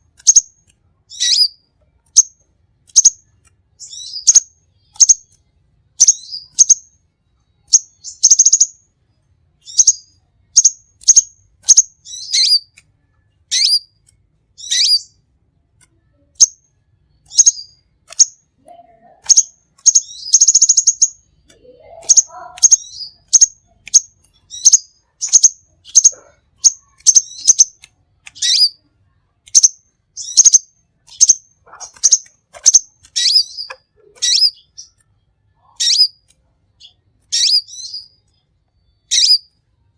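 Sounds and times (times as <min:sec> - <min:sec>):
songbird chirps: 0:00.0 - 0:39.9.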